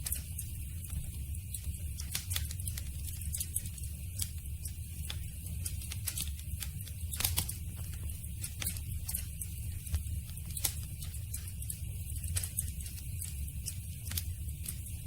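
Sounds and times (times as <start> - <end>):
low fire rumble: 0.0 - 15.0.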